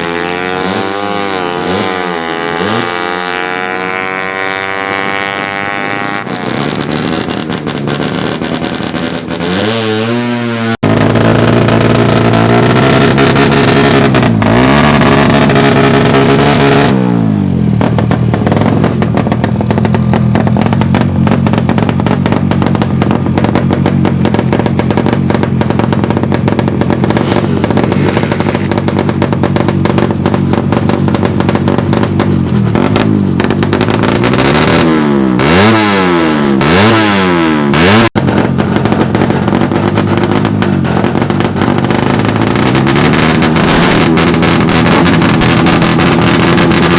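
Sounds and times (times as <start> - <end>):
motorcycle engine revving hard: 0.0 - 46.9.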